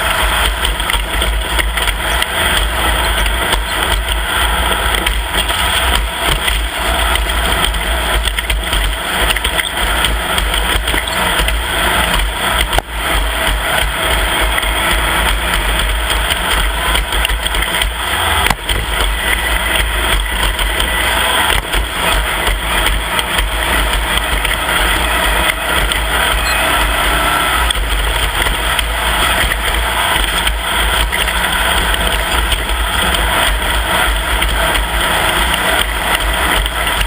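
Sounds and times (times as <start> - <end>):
heavy low rumble: 0.0 - 37.0
race vehicle engine running loudly: 0.0 - 37.0.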